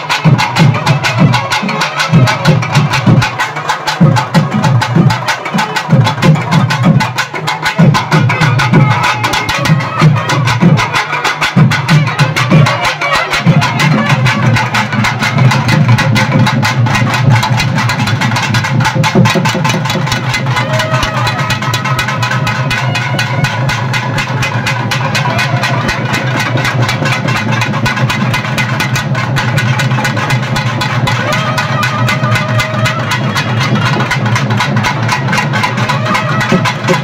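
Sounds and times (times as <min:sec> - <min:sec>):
fast steady drumming: 0:00.0 - 0:37.0.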